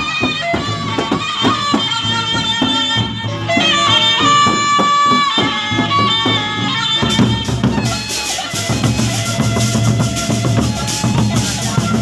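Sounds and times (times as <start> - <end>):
big drums beating: 0.0 - 12.0
reedy wind melody: 0.0 - 12.0
clashing cymbals: 0.1 - 12.0.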